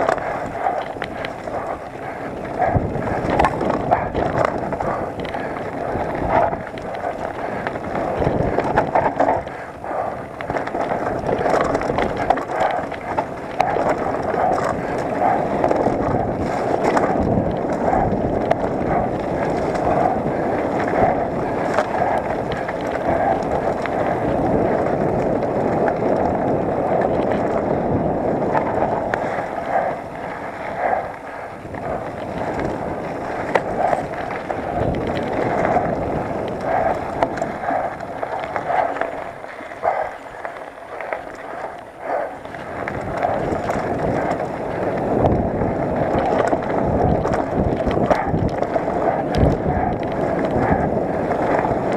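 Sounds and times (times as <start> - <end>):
bike rattling and knocking: 0.0 - 51.9
tyres rumbling over dirt: 0.0 - 51.9.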